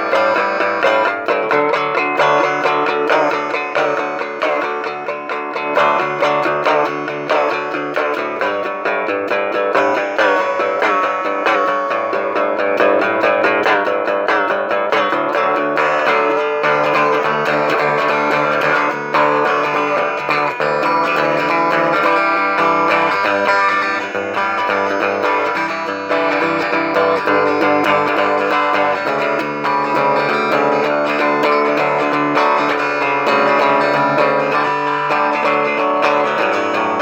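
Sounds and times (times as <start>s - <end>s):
plucked and strummed guitar: 0.0s - 37.0s.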